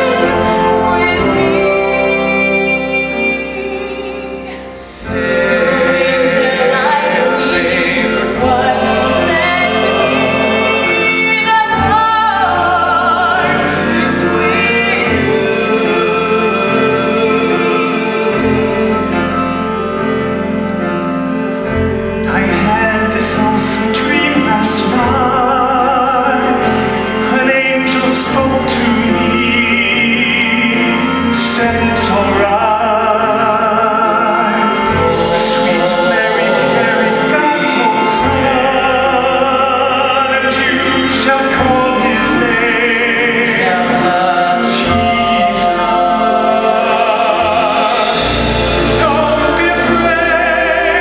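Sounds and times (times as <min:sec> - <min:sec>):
pit orchestra playing: 0:00.0 - 0:51.0
solo voices singing with vibrato: 0:00.0 - 0:51.0.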